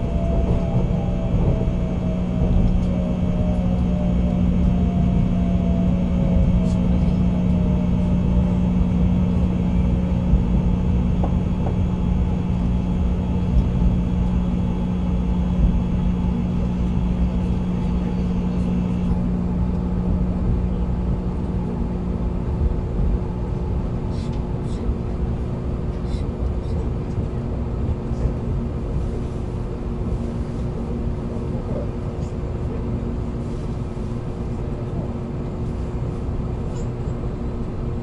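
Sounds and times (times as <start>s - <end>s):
train low rumble and hum: 0.0s - 38.0s.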